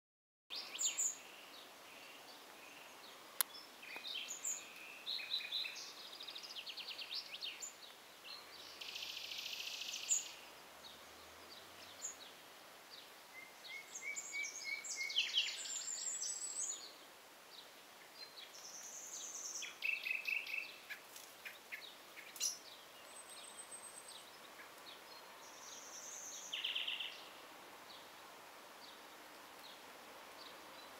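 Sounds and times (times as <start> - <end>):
songbirds singing and chirping: 0.5 - 30.9.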